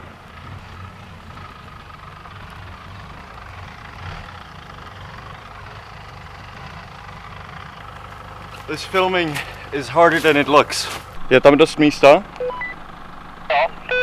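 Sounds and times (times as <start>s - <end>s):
van engine at low revs: 0.0s - 14.0s.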